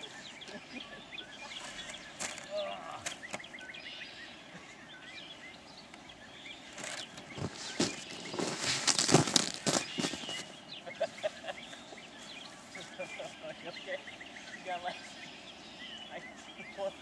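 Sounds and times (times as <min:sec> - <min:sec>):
faint outdoor noise: 0:00.0 - 0:17.0
small birds chirping: 0:00.0 - 0:17.0.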